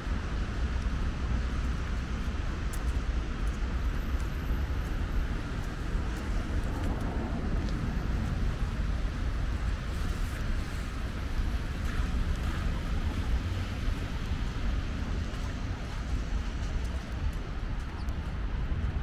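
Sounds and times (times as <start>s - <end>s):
traffic hum: 0.0s - 19.0s
wind rumbling on microphone: 0.0s - 19.0s.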